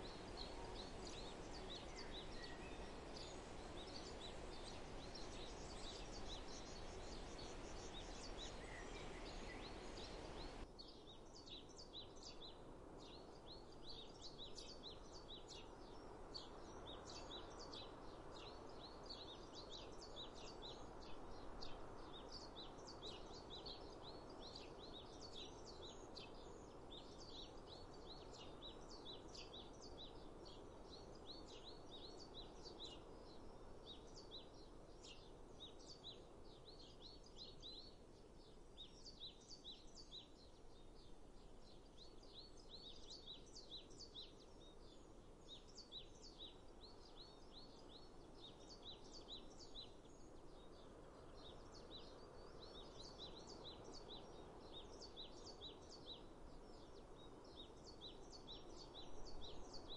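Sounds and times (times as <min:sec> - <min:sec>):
soft steady rushing hiss: 0:00.0 - 0:59.9
songbirds chirping: 0:00.0 - 0:59.9.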